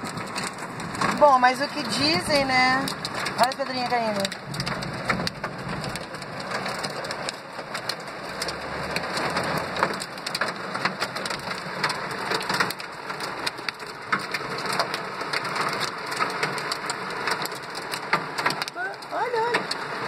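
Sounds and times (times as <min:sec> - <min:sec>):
hailstones ticking on car: 0:00.0 - 0:20.0
heavy rain on car roof: 0:00.0 - 0:20.0.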